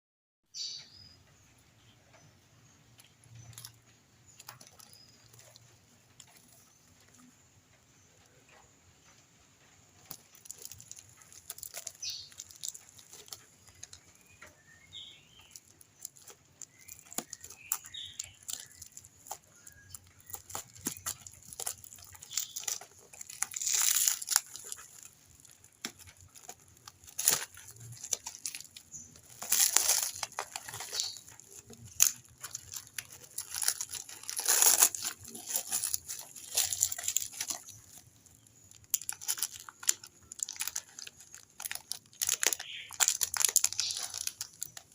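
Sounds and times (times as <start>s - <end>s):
plastic crinkling and tearing: 3.0s - 7.4s, 10.0s - 44.9s.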